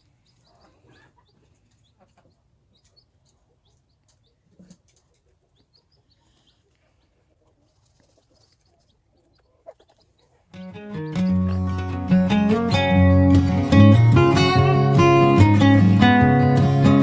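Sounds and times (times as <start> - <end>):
chicks peeping: 0.0 - 16.5.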